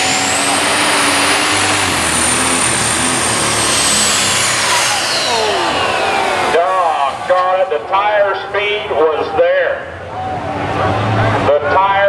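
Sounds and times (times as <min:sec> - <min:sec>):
high whine: 0:00.0 - 0:11.4
tractor engine at full power: 0:00.0 - 0:12.0.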